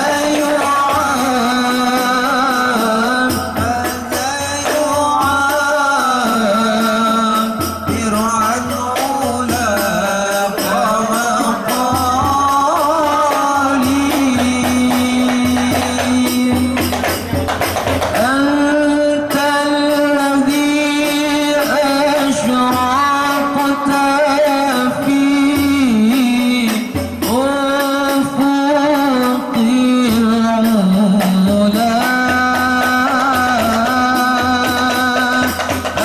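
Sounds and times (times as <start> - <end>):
devotional song with held melody: 0.0 - 17.4, 18.0 - 36.0
tambourine and hand drum: 0.0 - 36.0.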